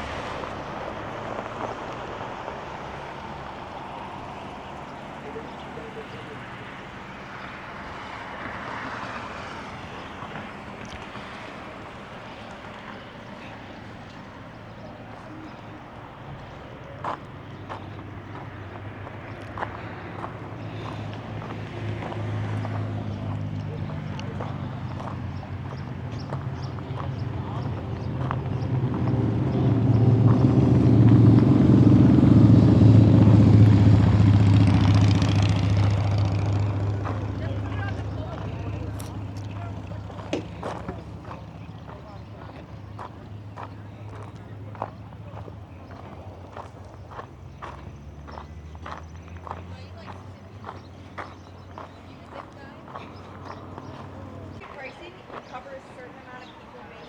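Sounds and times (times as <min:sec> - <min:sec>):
vehicle engine hum: 0:00.0 - 0:57.0.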